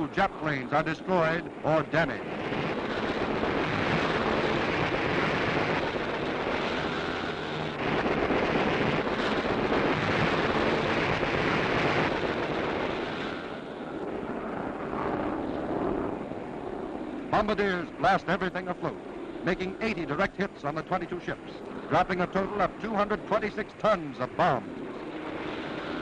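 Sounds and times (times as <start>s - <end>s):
aircraft engines roaring: 0.0s - 26.0s.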